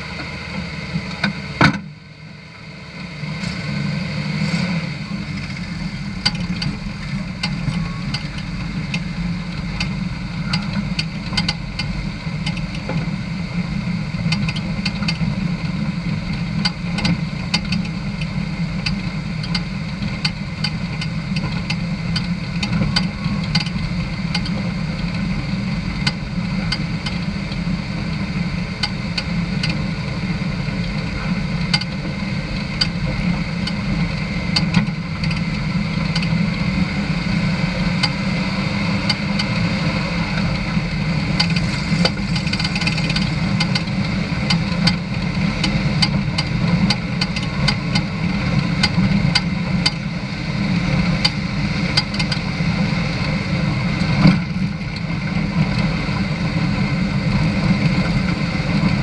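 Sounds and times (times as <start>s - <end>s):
vehicle driving on gravel road: 0.0s - 59.0s
sharp clicks and rattles: 4.4s - 59.0s.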